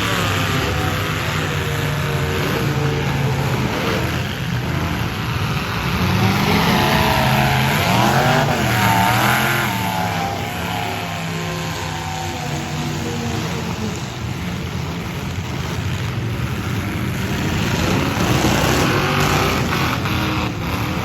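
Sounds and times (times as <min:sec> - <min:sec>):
car engines revving hard: 0:00.0 - 0:21.0.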